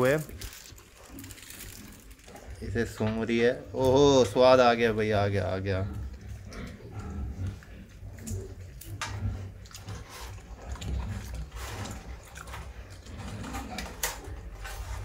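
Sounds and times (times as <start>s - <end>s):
pig crunching chips: 0.0s - 4.3s, 5.8s - 15.0s.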